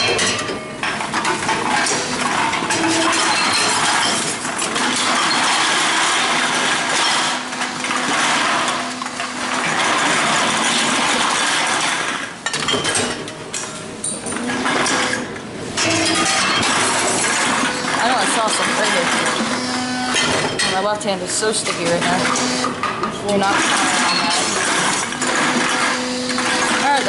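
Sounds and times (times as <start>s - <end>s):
glass bottles clattering and clinking: 0.0s - 27.0s.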